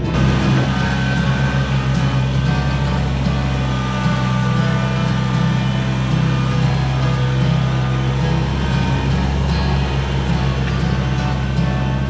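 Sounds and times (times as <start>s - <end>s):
music playing: 0.0s - 12.0s
tractor diesel engine running: 0.0s - 12.0s.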